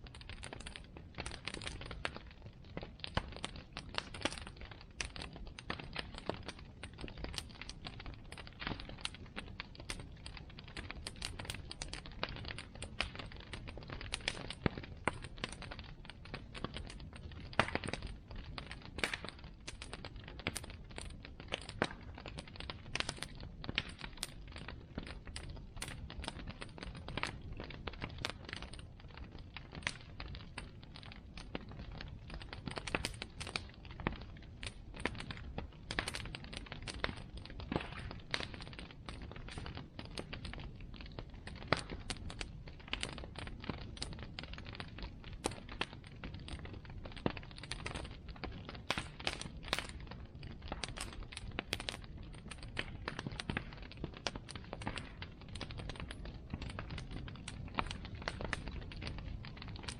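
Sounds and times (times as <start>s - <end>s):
bonfire wood crackling and popping: 0.0s - 59.9s
low steady fire rumble: 0.0s - 59.9s.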